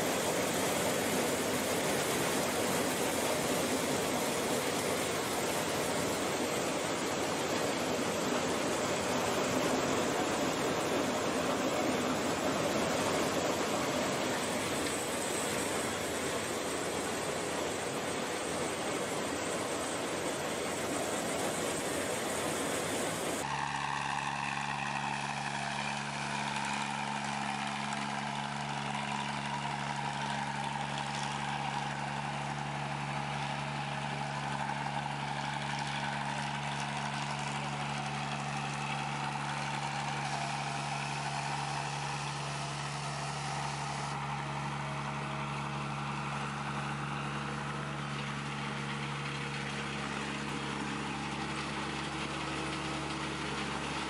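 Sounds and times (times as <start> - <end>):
machine engine humming: 0.0 - 54.0.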